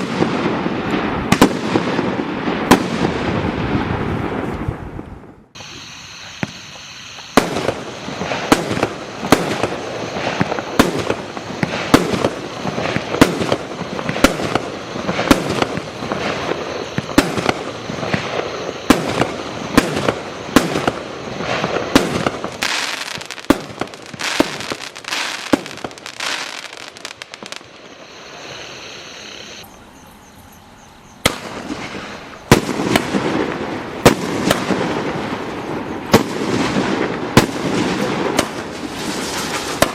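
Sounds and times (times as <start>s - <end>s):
firework bangs: 0.0s - 29.6s, 31.2s - 39.9s
firework crackling: 5.5s - 29.6s, 31.2s - 39.9s.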